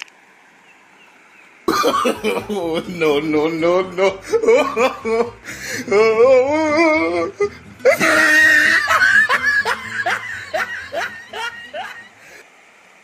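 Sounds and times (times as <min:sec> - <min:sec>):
man laughing hard: 0:01.7 - 0:12.4.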